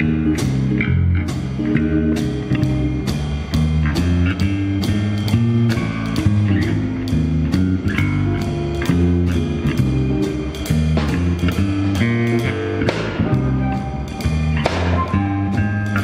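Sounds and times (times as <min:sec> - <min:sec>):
drums on cymbals: 0:00.0 - 0:16.0
electric bass: 0:00.0 - 0:16.0.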